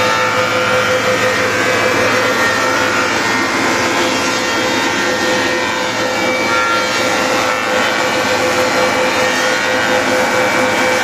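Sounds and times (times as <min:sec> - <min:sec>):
planer machine running: 0:00.0 - 0:11.0.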